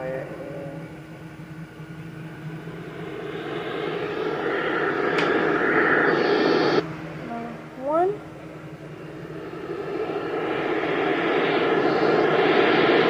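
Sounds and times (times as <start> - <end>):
radio static hiss: 0.0 - 1.1, 2.1 - 13.0.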